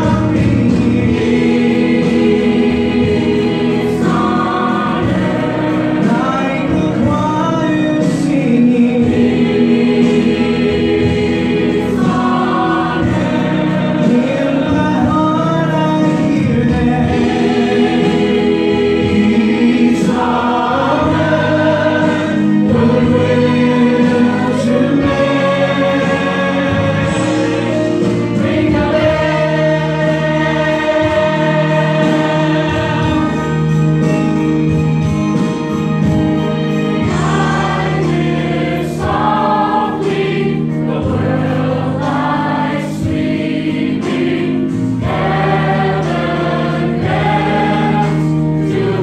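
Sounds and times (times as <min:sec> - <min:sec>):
mixed choir singing: 0:00.0 - 0:49.0
musical accompaniment: 0:00.0 - 0:49.0.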